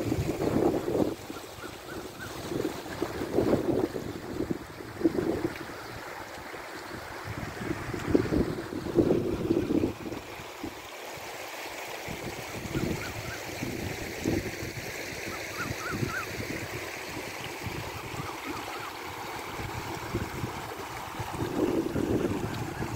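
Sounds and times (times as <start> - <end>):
floodwater rushing and gurgling: 0.0 - 22.9.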